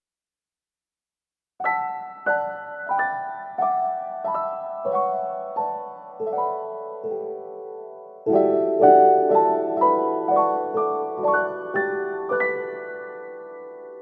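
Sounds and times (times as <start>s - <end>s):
piano music: 1.6s - 14.0s.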